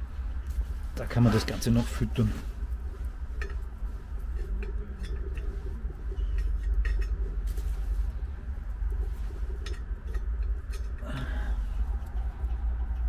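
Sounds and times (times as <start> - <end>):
low rumble: 0.0 - 13.0
twig fire crackling: 0.0 - 13.0.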